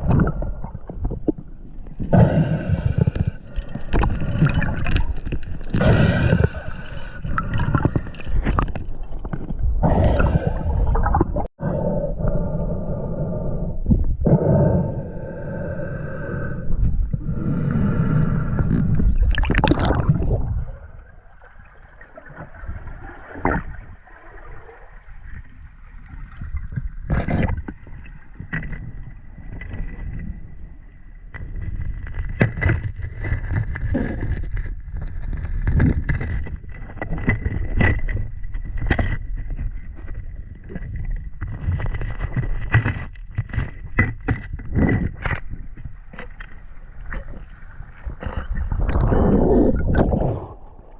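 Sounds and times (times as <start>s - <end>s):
water sloshing and gurgling: 0.0s - 12.5s, 13.1s - 50.9s.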